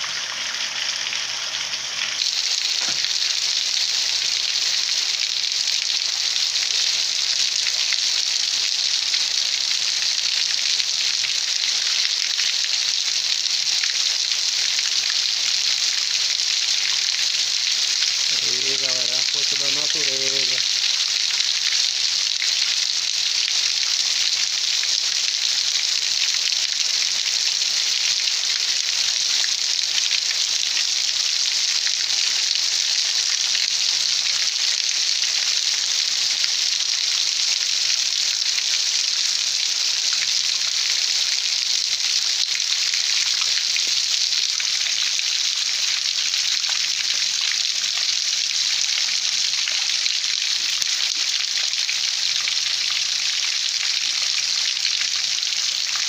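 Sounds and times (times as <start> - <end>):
rainwater running over pavement: 0.0 - 56.0.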